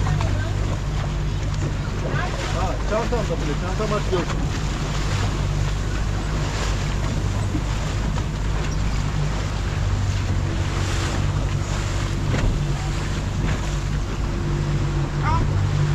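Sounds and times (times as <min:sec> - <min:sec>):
boat engine running: 0:00.0 - 0:15.9
water rushing past hull: 0:00.0 - 0:15.9.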